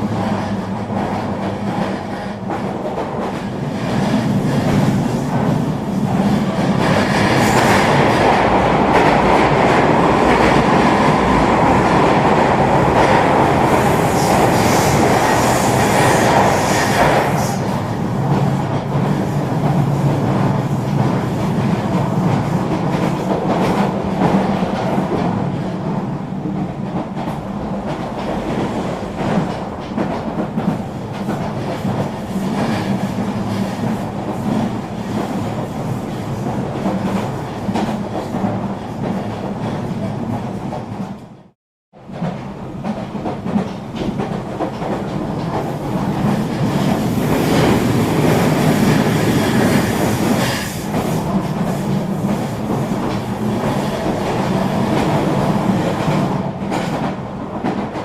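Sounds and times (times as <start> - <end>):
train rolling rumble: 0.0 - 58.0.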